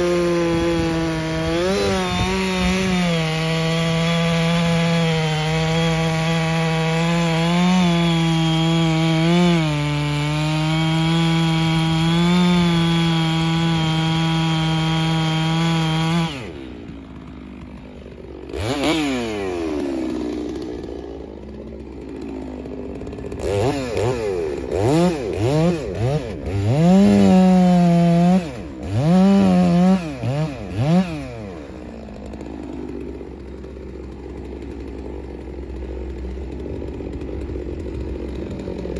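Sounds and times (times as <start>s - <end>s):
chainsaw cutting log: 0.0s - 38.9s
chainsaw idling and revving: 0.0s - 38.9s.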